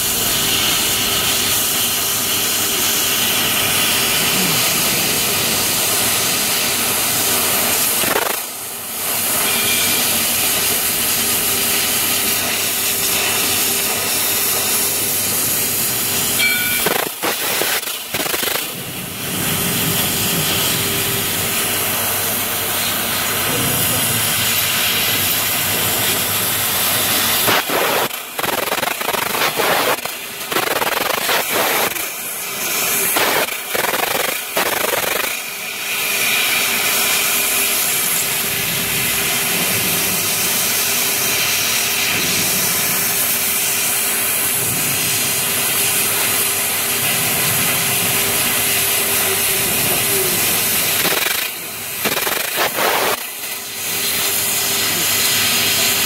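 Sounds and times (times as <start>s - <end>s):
gas jet hissing: 0.0s - 56.0s.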